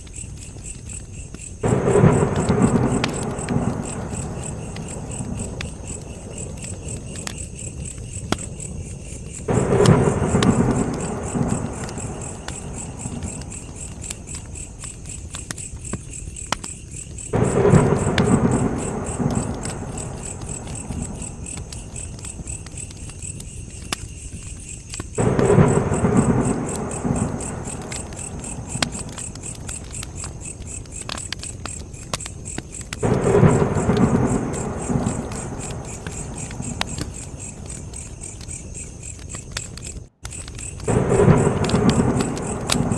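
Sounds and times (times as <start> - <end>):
campfire crackling and popping: 0.0 - 42.9
crickets chirping: 0.0 - 42.9.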